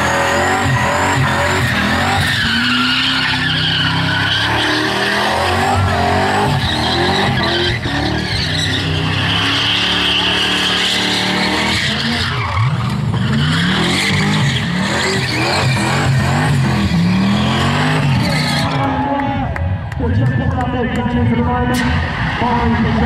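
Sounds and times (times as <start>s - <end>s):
car engine revving high: 0.0s - 19.0s
tyres squealing: 0.3s - 18.8s.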